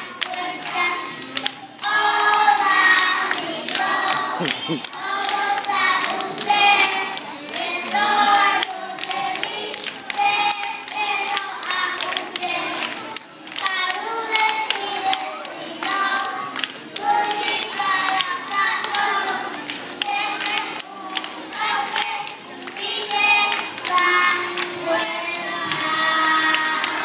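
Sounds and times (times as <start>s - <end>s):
children singing together: 0.0s - 27.0s
hand clapping: 0.0s - 27.0s.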